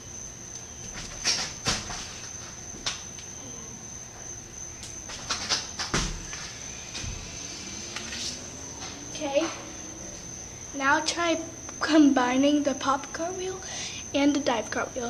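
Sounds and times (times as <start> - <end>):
steady high-pitched whine: 0.0 - 15.0.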